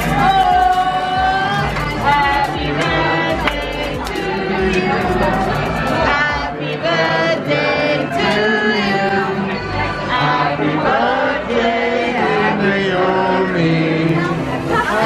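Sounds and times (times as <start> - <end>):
music: 0.0 - 15.0
voices singing together: 0.0 - 15.0.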